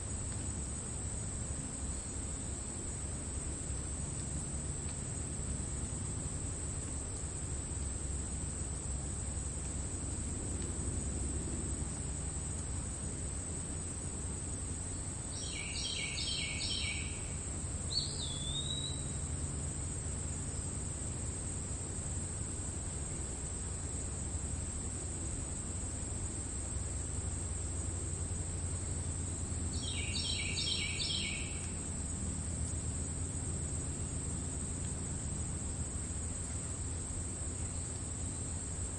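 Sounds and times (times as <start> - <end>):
crickets trilling: 0.0 - 38.9
low outdoor rumble: 0.0 - 38.9.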